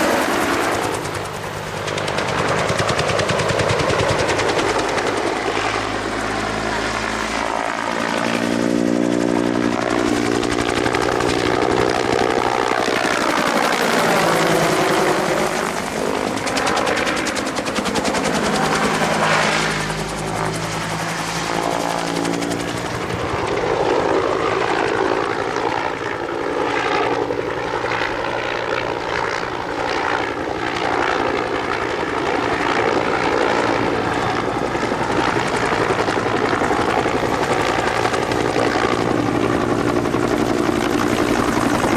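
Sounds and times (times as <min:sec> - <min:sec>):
helicopter rotor and turbine: 0:00.0 - 0:41.9.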